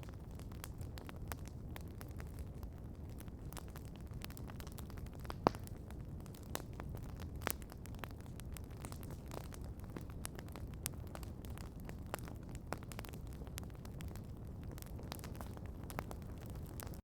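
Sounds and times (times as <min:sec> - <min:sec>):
campfire crackling and popping: 0:00.0 - 0:17.0
low rumble of burning fire: 0:00.0 - 0:17.0.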